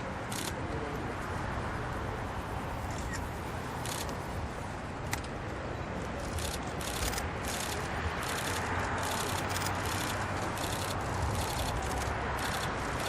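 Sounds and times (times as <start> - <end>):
distant jet engine: 0.0 - 13.0.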